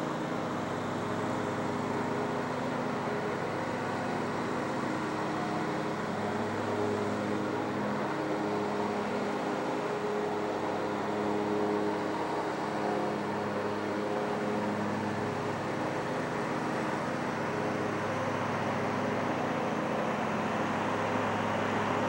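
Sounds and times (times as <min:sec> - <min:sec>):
distant road traffic: 0:00.0 - 0:22.0.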